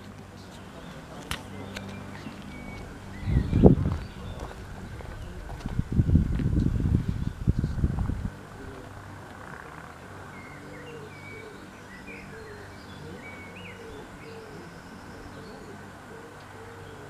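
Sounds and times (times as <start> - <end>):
diesel locomotive engine humming: 0.0 - 17.0
bird chirps: 0.3 - 7.8, 9.5 - 17.0
bird cooing: 0.4 - 5.9, 8.3 - 17.0.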